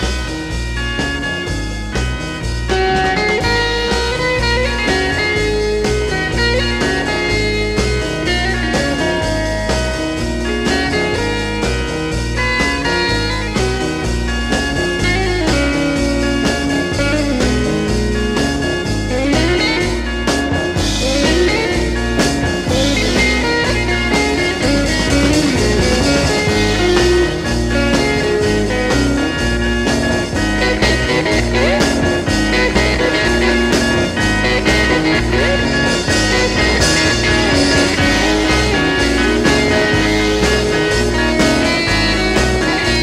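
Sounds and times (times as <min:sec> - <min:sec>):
instrumental rock music: 0:00.0 - 0:43.0.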